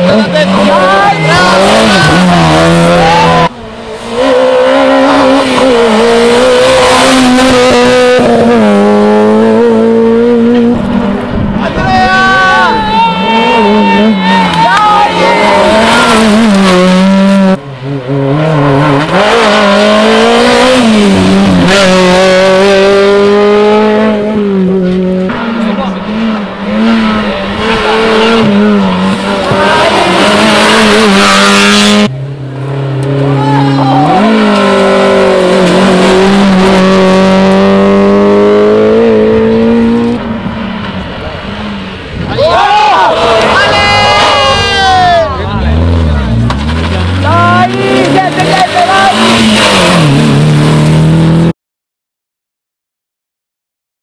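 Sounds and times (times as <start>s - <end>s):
rally car engines revving: 0.0s - 51.5s.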